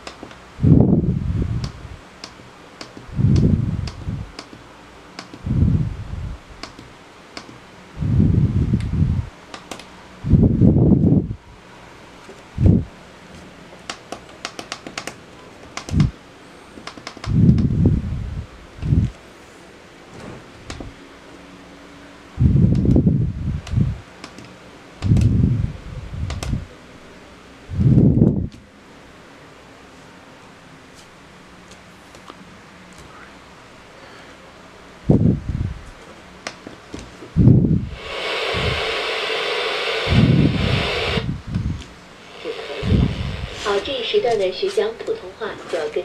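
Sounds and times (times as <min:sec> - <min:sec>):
low noisy whooshes: 0:00.5 - 0:02.1, 0:03.1 - 0:13.2, 0:15.9 - 0:30.6, 0:32.5 - 0:35.9, 0:37.3 - 0:46.0.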